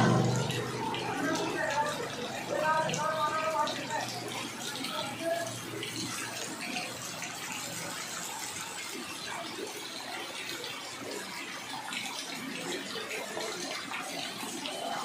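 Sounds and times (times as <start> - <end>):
heavy rain on standing water: 0.0 - 15.0.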